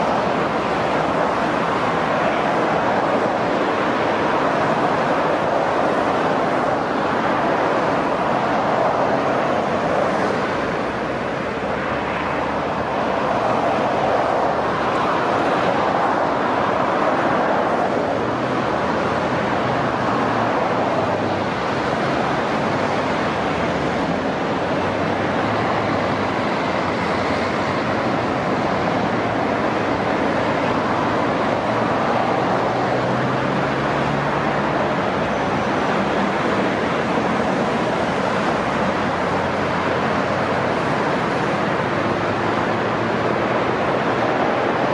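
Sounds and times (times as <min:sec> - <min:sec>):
steady rushing noise: 0:00.0 - 0:44.9.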